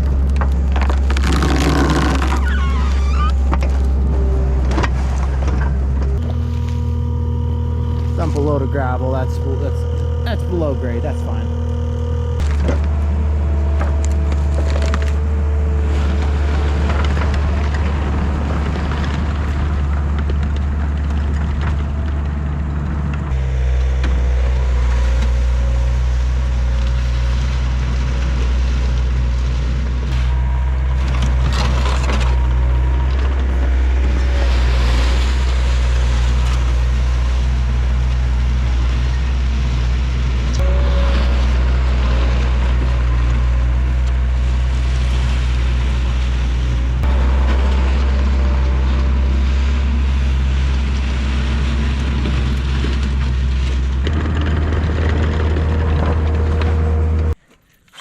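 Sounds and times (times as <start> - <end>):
diesel engine running: 0.0 - 57.4.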